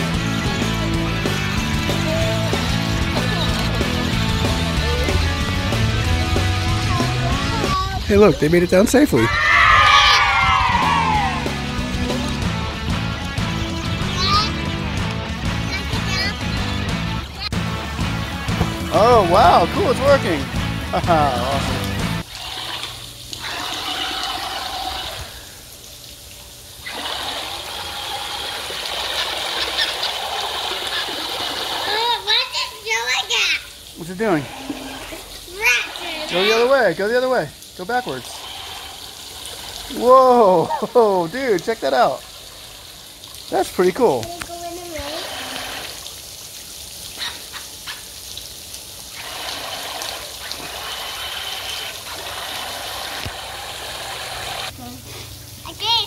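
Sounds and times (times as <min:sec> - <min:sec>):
water churning and splashing: 0:00.0 - 0:56.0
water trickling: 0:00.0 - 0:56.0.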